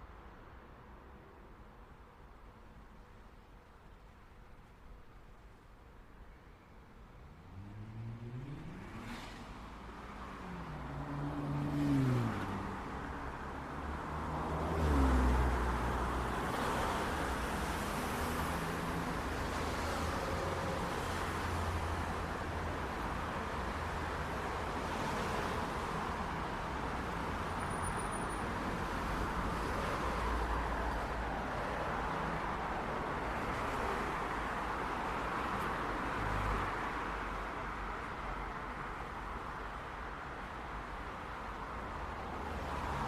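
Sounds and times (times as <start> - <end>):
street traffic: 0.0 - 43.0
vehicles passing: 7.2 - 43.0.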